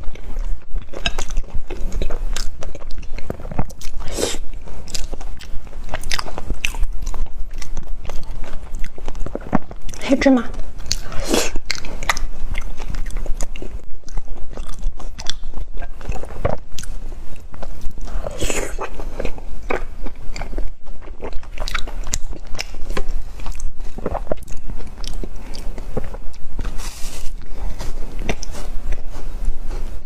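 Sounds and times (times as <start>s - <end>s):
person chewing crunchy food: 0.0s - 30.0s
steady low hum: 0.0s - 30.0s.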